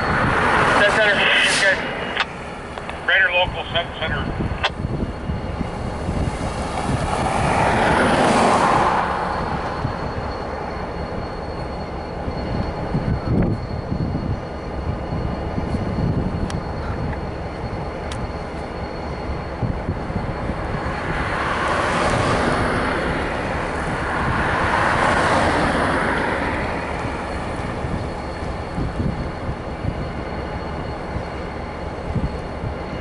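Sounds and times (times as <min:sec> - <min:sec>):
freight train rumbling on track: 0:00.0 - 0:33.0
rush of noise: 0:00.0 - 0:33.0.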